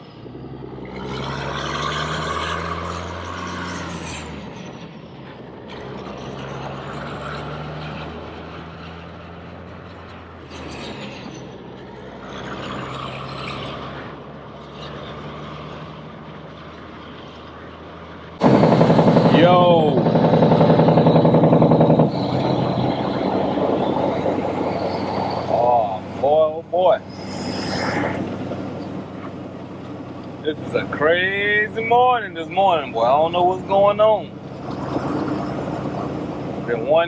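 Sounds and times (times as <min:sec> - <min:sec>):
diesel truck engine shifting gears: 0:00.0 - 0:37.0.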